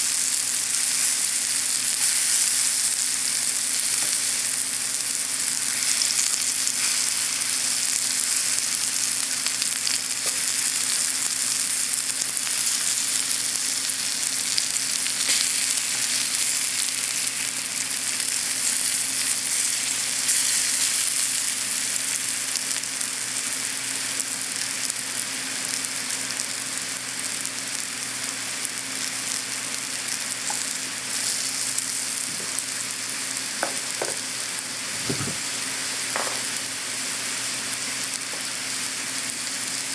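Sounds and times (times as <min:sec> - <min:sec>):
sweet potato sizzling in a pan: 0:00.0 - 0:39.9.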